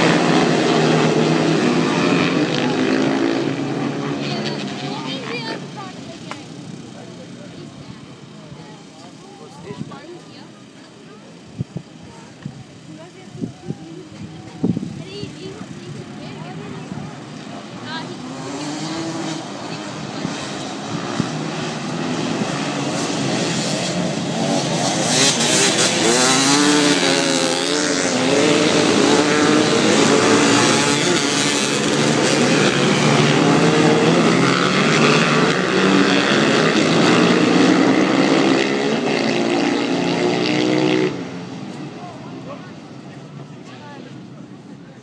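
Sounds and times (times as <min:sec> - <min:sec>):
racing motorcycles running hard: 0:00.0 - 0:10.5, 0:11.9 - 0:43.3.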